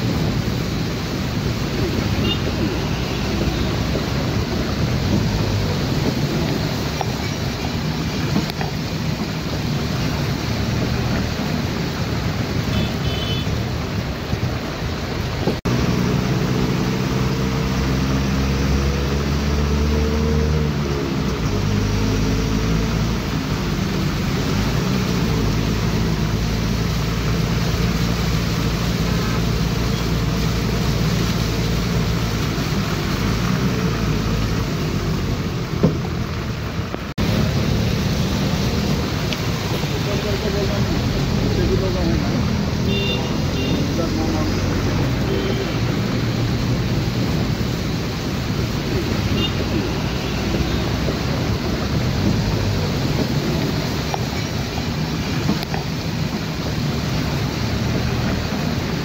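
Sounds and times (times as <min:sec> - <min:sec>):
rain on vehicle: 0:00.0 - 0:59.0
road noise: 0:00.0 - 0:59.0.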